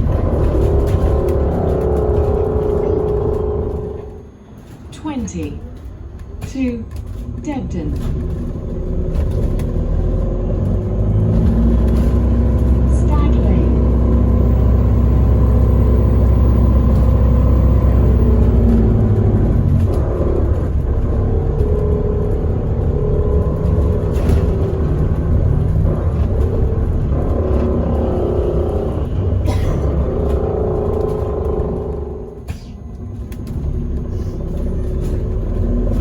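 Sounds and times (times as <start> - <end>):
deep loud drone: 0.0 - 4.8, 7.0 - 36.0
bus engine: 0.0 - 36.0
road rumble: 0.0 - 36.0.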